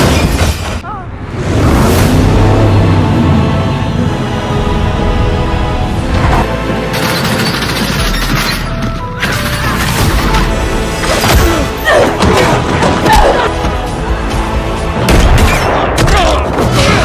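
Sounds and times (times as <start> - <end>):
loud dense music: 1.1 - 7.3, 9.4 - 17.0.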